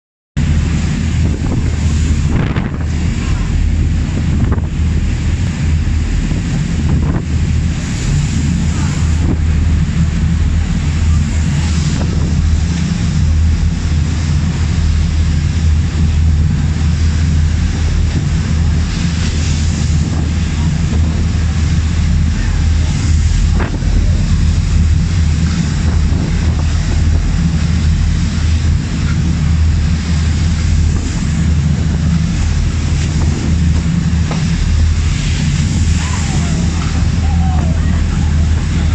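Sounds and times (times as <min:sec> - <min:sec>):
ferry engine drone: 0:00.4 - 0:38.9
wake water churning: 0:00.4 - 0:38.9
wind buffeting microphone: 0:00.4 - 0:38.9.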